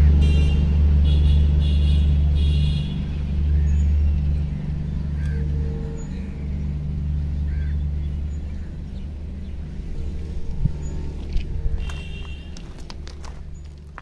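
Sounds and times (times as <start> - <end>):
diesel locomotive rumble: 0.0 - 14.0.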